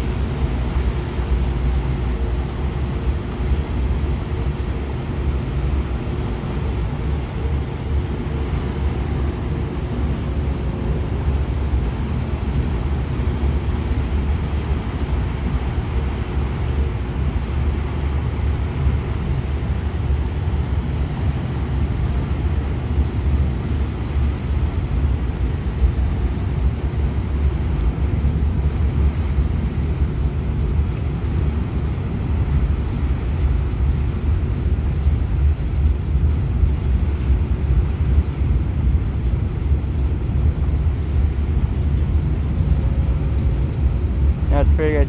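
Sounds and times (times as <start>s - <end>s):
churning wake: 0.0s - 45.0s
ferry engine rumble: 0.0s - 45.0s.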